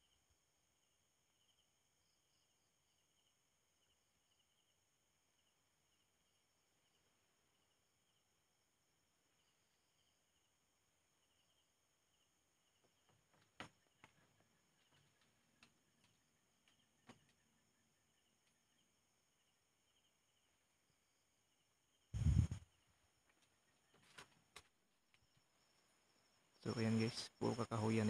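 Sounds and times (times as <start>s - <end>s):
night insects chirping: 0.0s - 28.0s.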